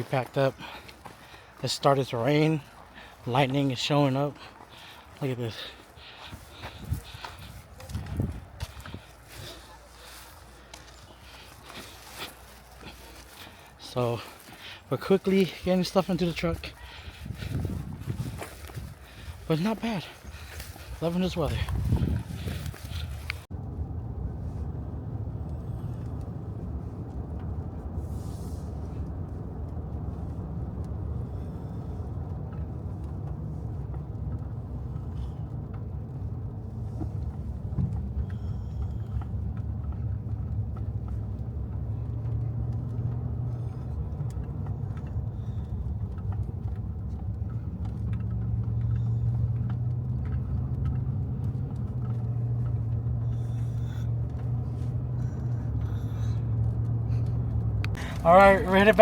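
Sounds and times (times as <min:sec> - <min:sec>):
truck engine and road rumble: 0:00.0 - 0:59.0.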